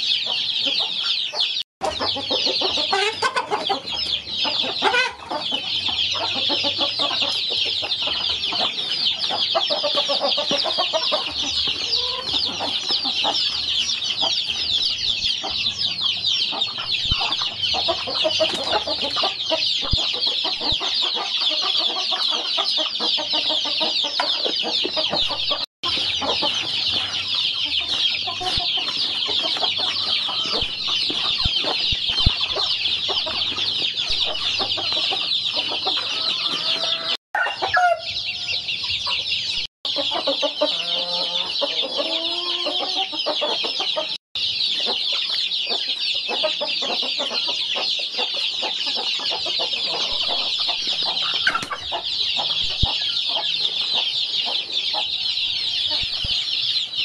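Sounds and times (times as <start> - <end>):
chicks cheeping: 0.0 - 57.0
hen clucking: 0.0 - 57.0.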